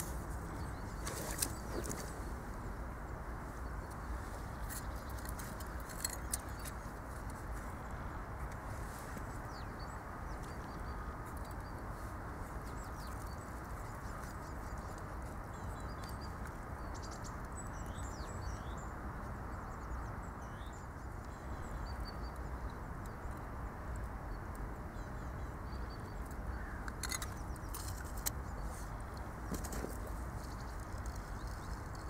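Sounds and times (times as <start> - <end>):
small birds chirping: 0.0 - 32.0
steady low background noise: 0.0 - 32.0.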